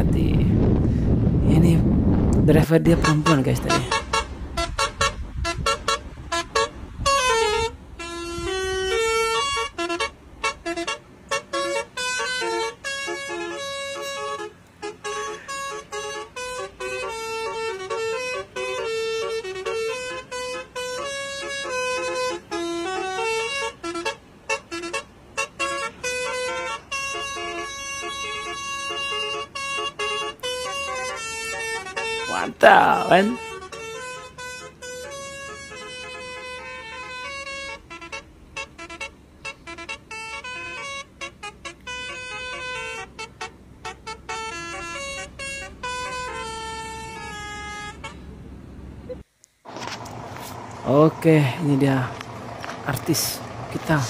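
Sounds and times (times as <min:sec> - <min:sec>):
truck musical horn tune: 0:02.9 - 0:54.0.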